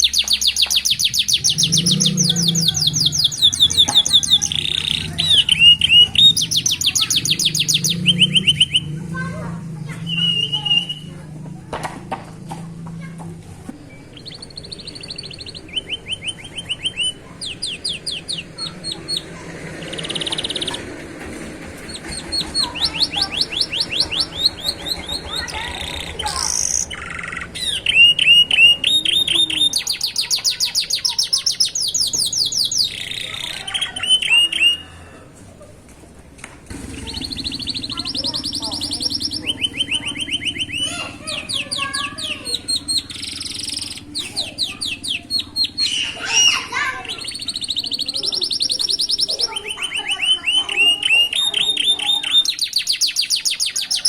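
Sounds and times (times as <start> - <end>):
canary singing trills: 0.0 - 11.6, 13.7 - 35.3, 36.7 - 54.0.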